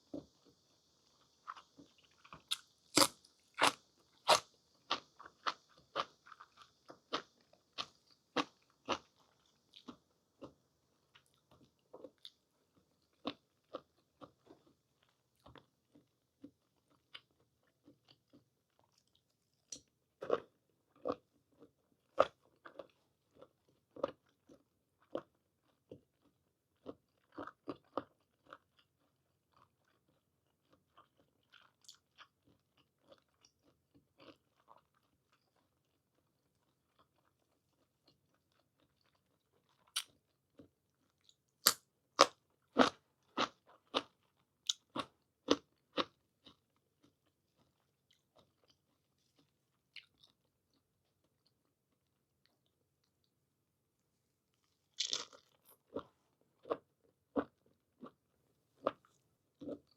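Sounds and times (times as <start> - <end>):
chewing with wet clicks and smacks: 1.2 - 53.4, 54.5 - 59.9.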